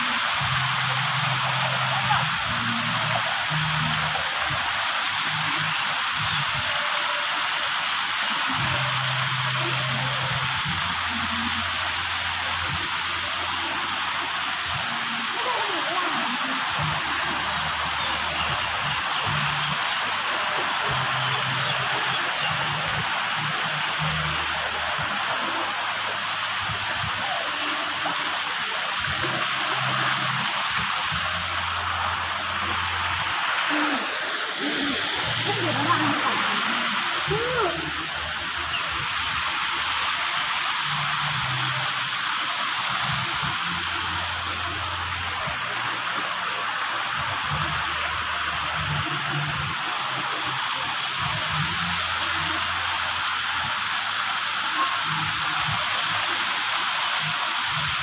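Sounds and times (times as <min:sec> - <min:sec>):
fountain spray falling: 0:00.0 - 0:58.0
water rushing down slides: 0:00.0 - 0:58.0
water splashing into a pool: 0:00.0 - 0:58.0.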